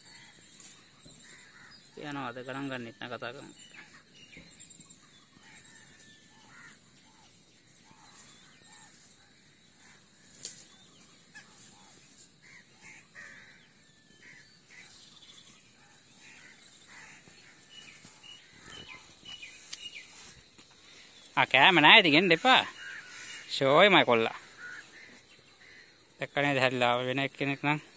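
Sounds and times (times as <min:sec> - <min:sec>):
birds calling: 0:00.0 - 0:27.9.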